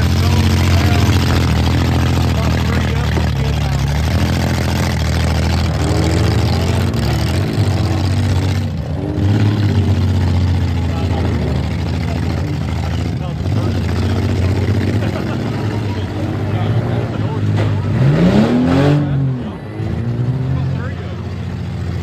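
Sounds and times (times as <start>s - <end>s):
car engines revving: 0.0s - 22.0s
crowd voices: 0.0s - 22.0s.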